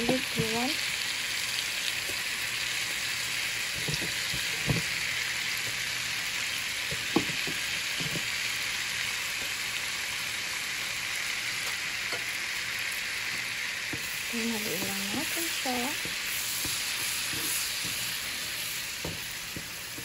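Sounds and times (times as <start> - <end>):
garlic sizzling in butter: 0.0 - 20.0.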